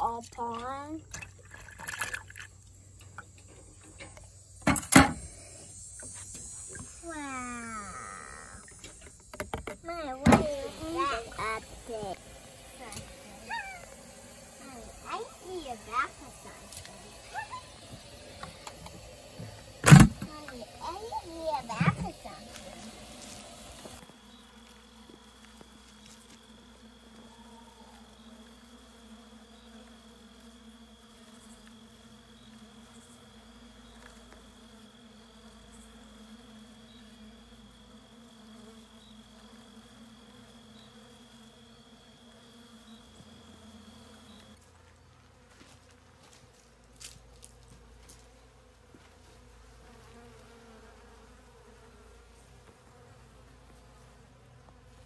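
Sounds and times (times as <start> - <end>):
honey bees buzzing: 0.0 - 55.0.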